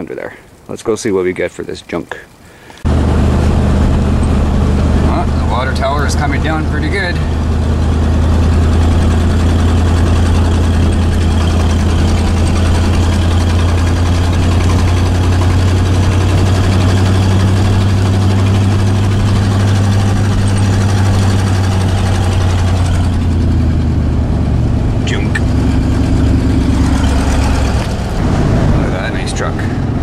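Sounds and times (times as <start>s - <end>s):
vehicle engine droning: 2.8s - 30.0s.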